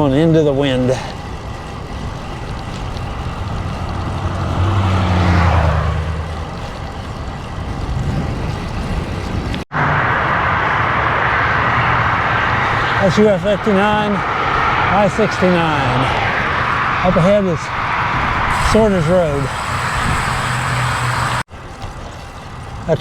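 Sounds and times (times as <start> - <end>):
wind rushing over microphone: 0.0 - 21.5
motor vehicle passing: 0.0 - 22.7
road noise: 0.0 - 23.0.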